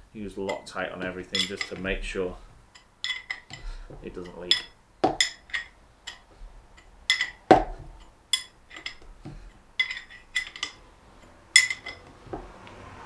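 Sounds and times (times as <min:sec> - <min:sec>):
spanner clinking on metal: 0:00.4 - 0:02.0, 0:02.7 - 0:12.2.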